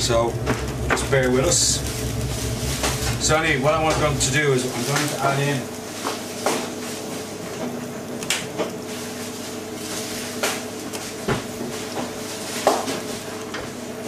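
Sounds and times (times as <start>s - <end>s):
steady kitchen hum: 0.0s - 14.0s.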